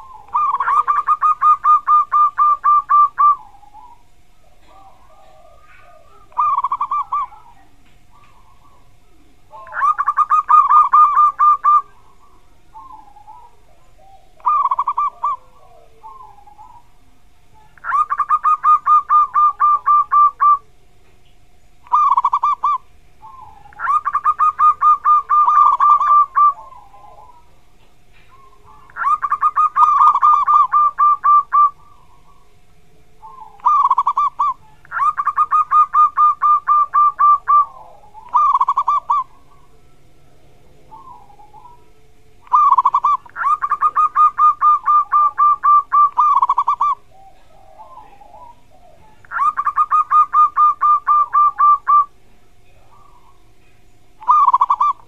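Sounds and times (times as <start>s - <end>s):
dove cooing song: 0.0s - 55.0s.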